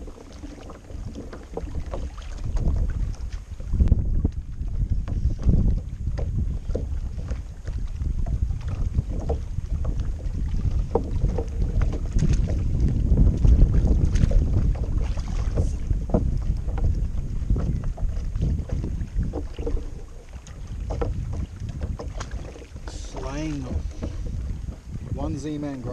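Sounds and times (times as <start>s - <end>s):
water lapping against kayak hull: 0.0s - 25.9s
wind buffeting microphone: 0.0s - 25.9s.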